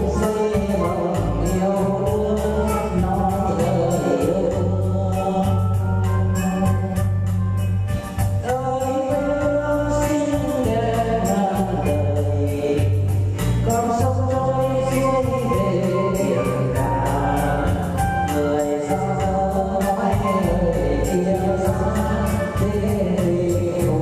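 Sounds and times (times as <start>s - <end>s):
electronic organ with bass line: 0.0s - 24.0s
person singing: 0.0s - 24.0s.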